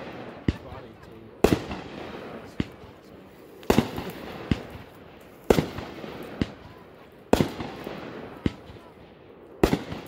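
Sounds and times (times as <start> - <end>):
fireworks loud bangs: 0.0 - 3.0, 3.6 - 10.0
softer sharp firework reports: 0.0 - 10.0.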